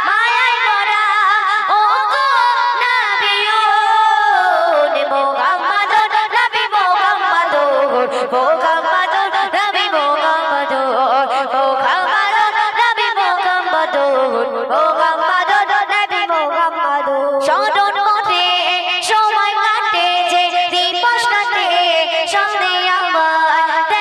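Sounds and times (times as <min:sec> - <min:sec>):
person singing into microphone: 0:00.0 - 0:24.0.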